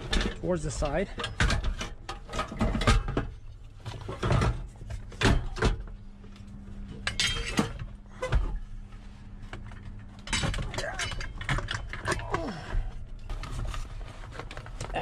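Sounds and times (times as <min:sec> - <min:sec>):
faint steady hum: 0:00.0 - 0:15.0
knocks and clunks of parts: 0:00.0 - 0:15.0.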